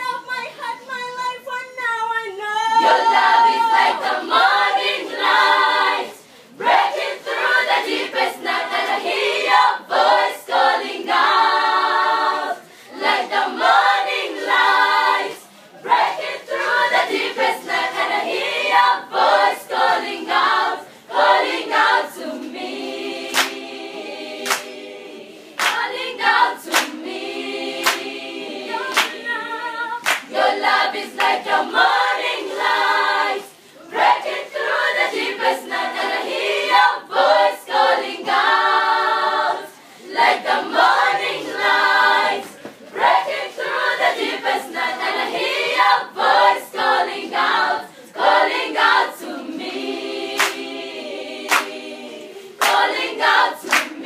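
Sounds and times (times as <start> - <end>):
children's choir singing: 2.7 - 54.0.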